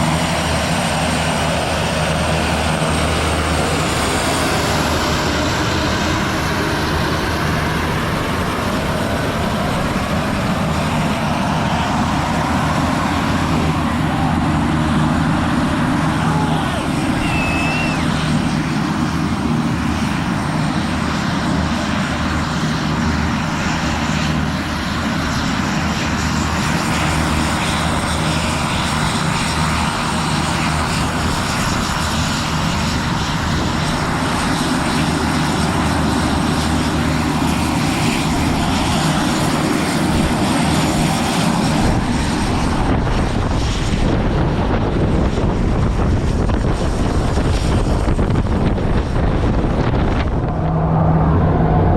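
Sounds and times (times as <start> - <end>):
propeller aircraft drone: 0.0 - 51.9
wind noise: 0.0 - 51.9.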